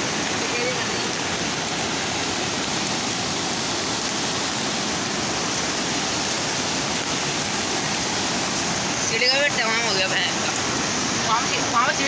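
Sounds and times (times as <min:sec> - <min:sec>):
river rushing in flood: 0:00.0 - 0:12.0.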